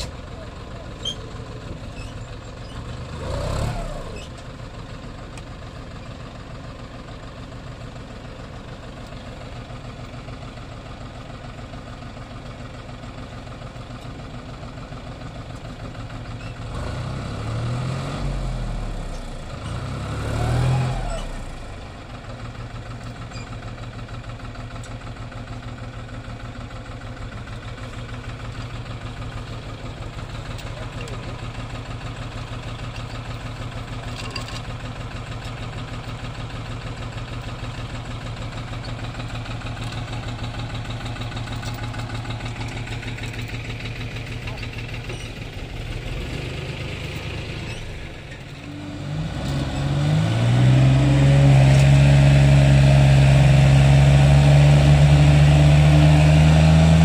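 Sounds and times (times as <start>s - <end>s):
vehicle engine idling and revving: 0.0s - 57.0s.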